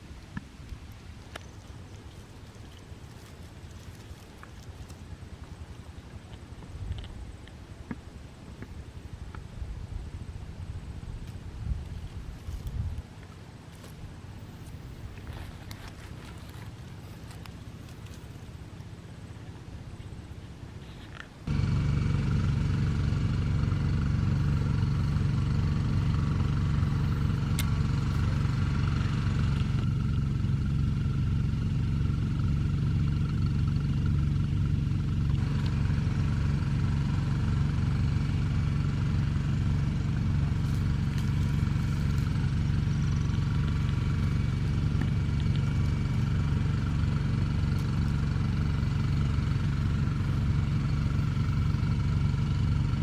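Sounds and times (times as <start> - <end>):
small engine idling: 0.0 - 7.1, 11.2 - 53.0.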